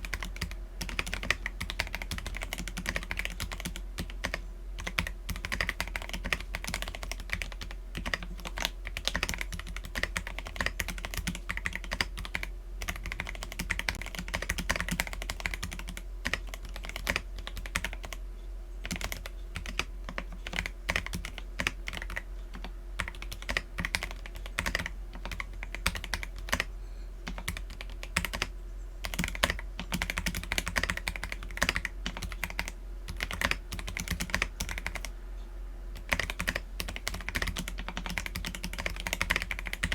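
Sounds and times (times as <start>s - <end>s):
mechanical keyboard typing: 0.0s - 18.2s, 18.8s - 35.1s, 36.0s - 39.9s.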